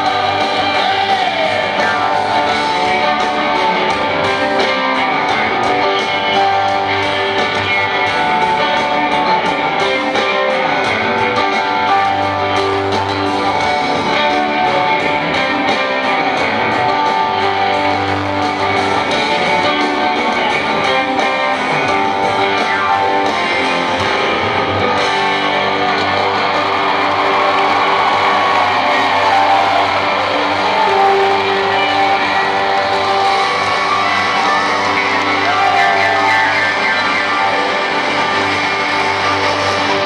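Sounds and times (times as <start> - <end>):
electric guitar: 0.0 - 40.0
live rock band playing: 0.0 - 40.0.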